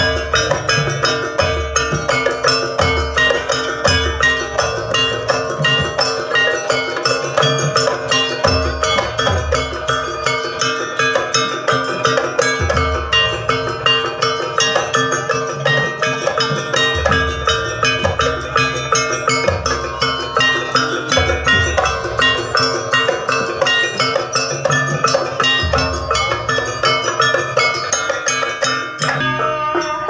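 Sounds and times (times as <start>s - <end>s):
drumming: 0.0s - 30.0s
tuned metal percussion ringing: 0.0s - 30.0s.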